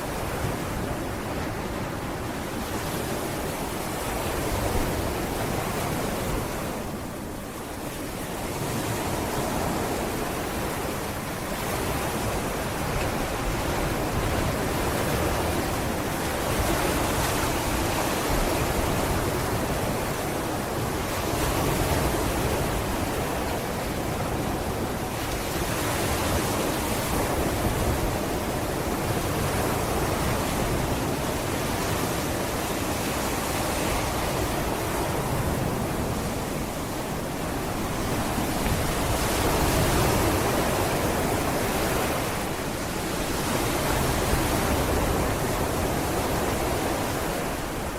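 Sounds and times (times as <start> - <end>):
sea waves washing onto beach: 0.0 - 47.9.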